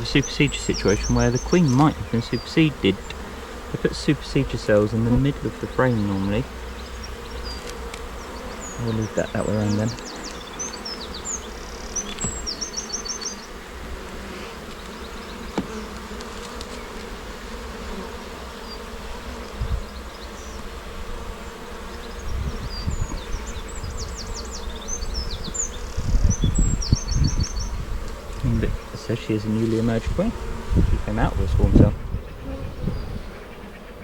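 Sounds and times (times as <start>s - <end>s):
honey bees buzzing: 0.0s - 34.0s.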